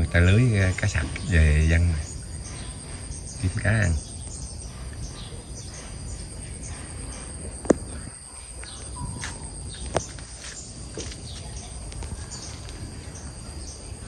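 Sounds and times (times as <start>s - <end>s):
birds chirping: 0.0s - 14.0s
insect drone: 0.0s - 14.0s.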